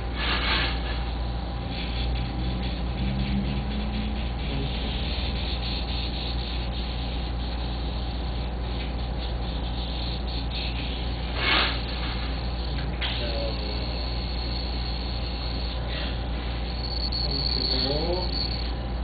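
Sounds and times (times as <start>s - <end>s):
machine hum with hiss: 0.0s - 19.0s.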